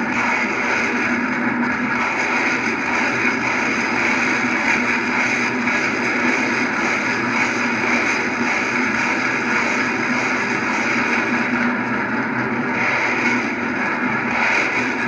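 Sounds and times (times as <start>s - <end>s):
rockets launching roar: 0.0s - 15.0s.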